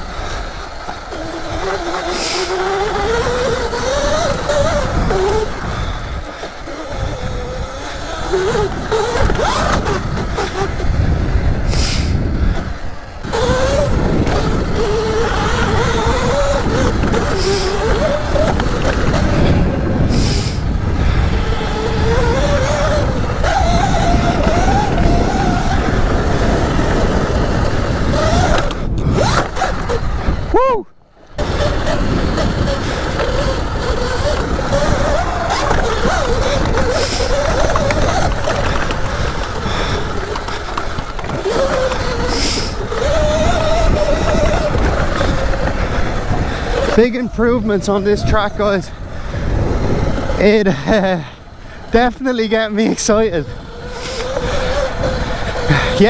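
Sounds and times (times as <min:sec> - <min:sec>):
electric dirt bike motor whine: 0:00.0 - 0:56.0
rushing wind: 0:00.0 - 0:56.0
tyre noise: 0:00.0 - 0:56.0.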